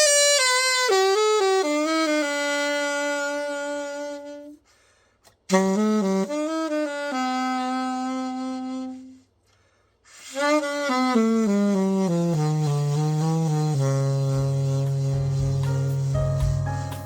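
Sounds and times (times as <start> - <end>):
alto saxophone solo: 0.0 - 17.0.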